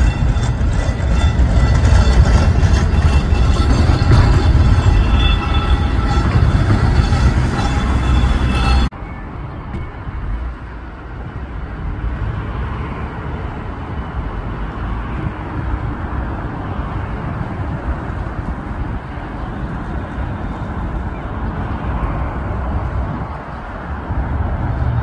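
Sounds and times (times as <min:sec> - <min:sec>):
city street noise: 0:00.0 - 0:25.0
tram approaching on tracks: 0:00.0 - 0:25.0.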